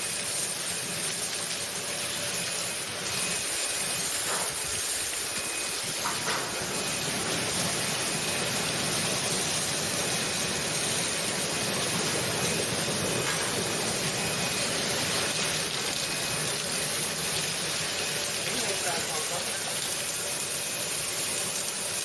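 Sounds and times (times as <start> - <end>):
churning water hiss: 0.0 - 22.0.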